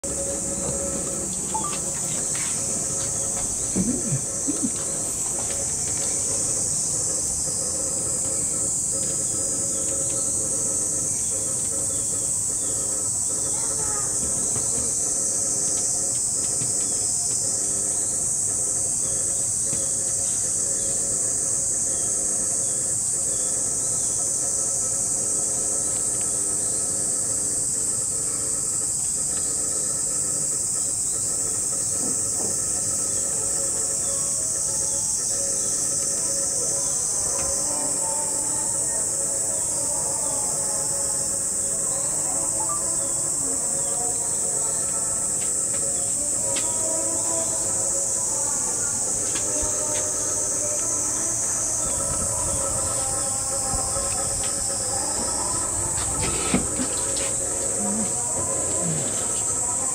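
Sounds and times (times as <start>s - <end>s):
cicadas droning: 0.0s - 59.9s
steady low hum: 0.0s - 59.9s.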